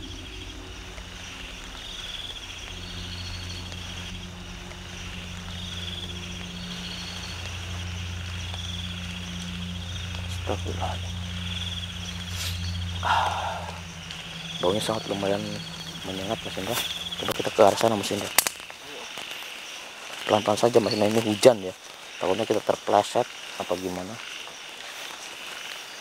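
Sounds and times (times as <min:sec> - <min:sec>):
steady low hum: 0:00.0 - 0:22.0
crickets trilling: 0:00.0 - 0:26.0.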